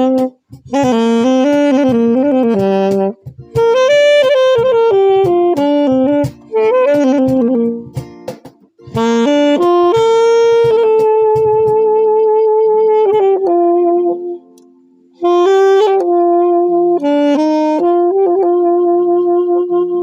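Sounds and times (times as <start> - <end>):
saxophone melody: 0.0 - 20.0.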